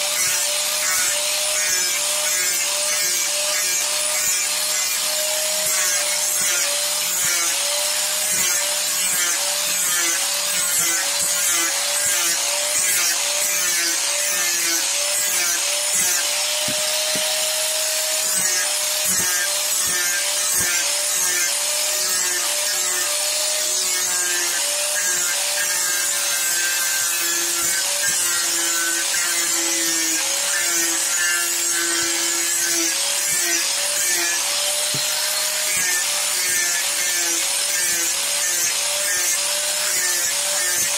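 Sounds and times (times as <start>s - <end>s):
angle grinder whine: 0.0s - 40.9s.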